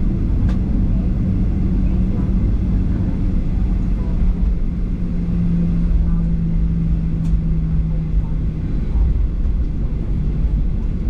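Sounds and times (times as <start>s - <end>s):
aircraft cabin drone: 0.0s - 11.0s
faint passenger voices: 0.0s - 11.0s.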